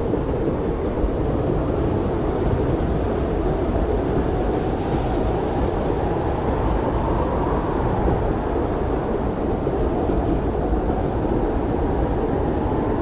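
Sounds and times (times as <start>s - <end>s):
blizzard wind rushing: 0.0s - 13.0s.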